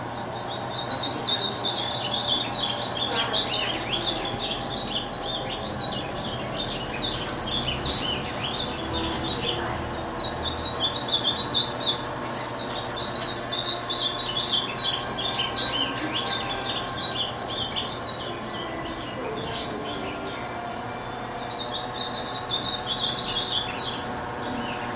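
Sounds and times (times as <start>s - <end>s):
songbirds chirping and singing: 0.0s - 24.9s.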